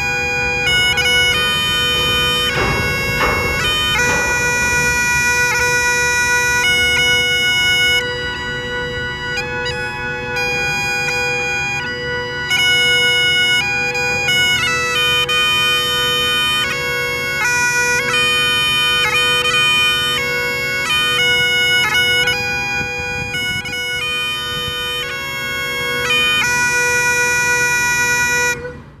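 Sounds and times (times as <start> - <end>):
bagpipes playing a tune: 0.0 - 29.0.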